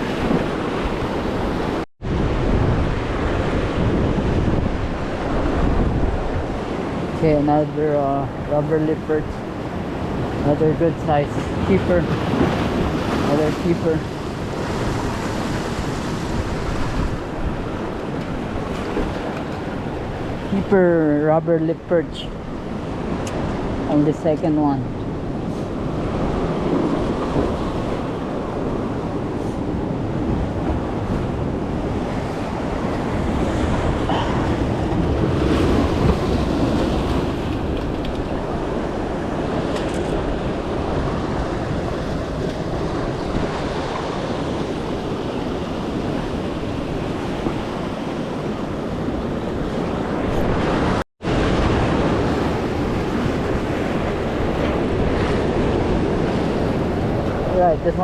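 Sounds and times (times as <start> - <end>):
ocean surf: 0.0 - 58.0
wind buffeting microphone: 0.0 - 58.0.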